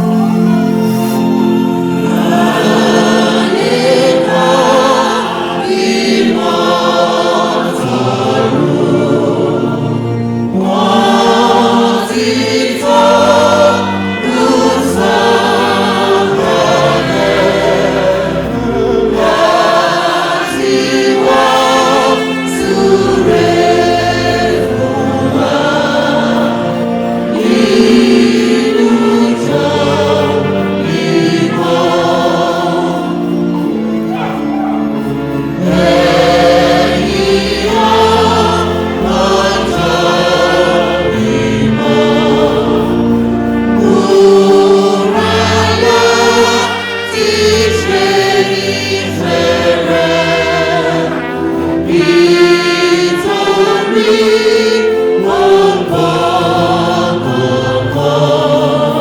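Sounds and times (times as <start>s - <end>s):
choir singing a hymn: 0.0s - 59.0s
sustained accompaniment: 0.0s - 59.0s.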